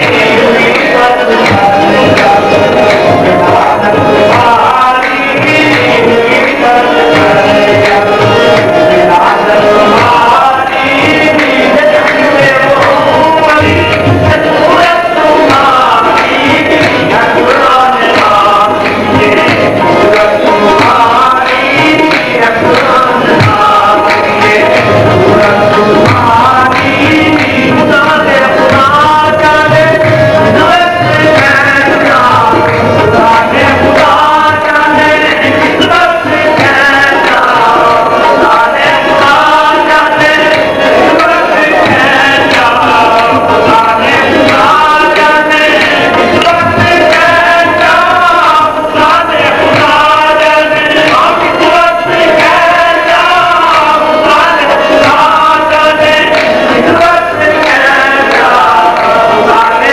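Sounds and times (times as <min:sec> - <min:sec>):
men singing devotional song: 0:00.0 - 0:59.9
tabla rhythm: 0:00.0 - 0:59.9.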